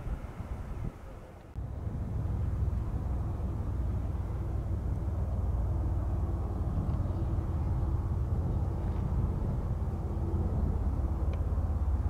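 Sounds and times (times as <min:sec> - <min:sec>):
distant jet engine rumble: 0:00.0 - 0:12.0.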